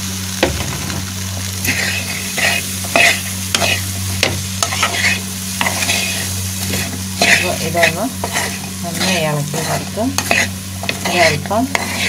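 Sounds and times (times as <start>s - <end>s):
food sizzling in pan: 0.0s - 12.0s
steady low hum: 0.0s - 12.0s
spatula scraping pan: 1.6s - 12.0s.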